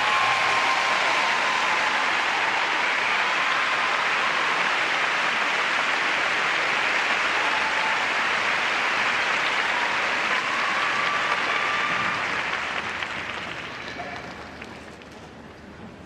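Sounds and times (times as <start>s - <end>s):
crowd applauding: 0.0s - 15.6s.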